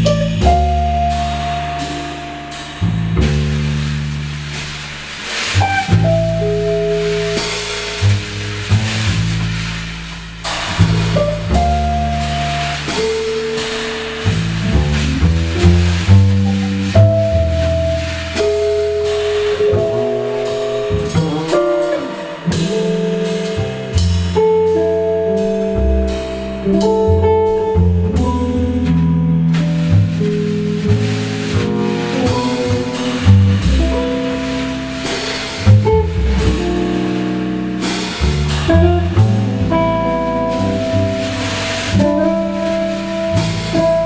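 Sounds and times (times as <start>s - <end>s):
guitar melody: 0.0s - 10.2s, 11.1s - 44.0s
low sustained bass line: 0.0s - 21.5s, 22.5s - 44.0s
drum kit and cymbals: 0.0s - 44.0s.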